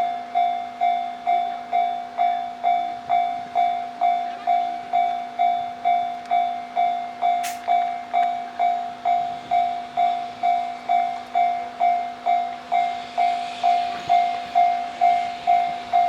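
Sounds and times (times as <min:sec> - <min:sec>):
railroad crossing bell ringing: 0:00.0 - 0:16.0.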